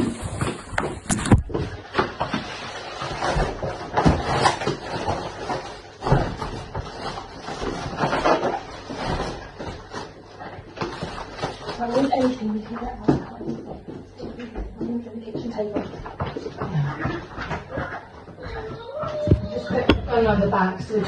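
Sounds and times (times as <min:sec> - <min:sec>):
household objects clattering: 0:00.0 - 0:21.0.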